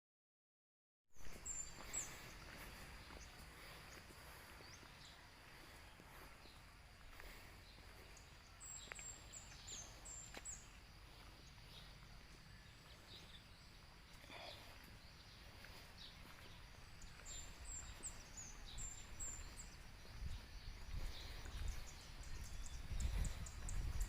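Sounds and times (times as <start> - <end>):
birds chirping: 1.2 - 24.0.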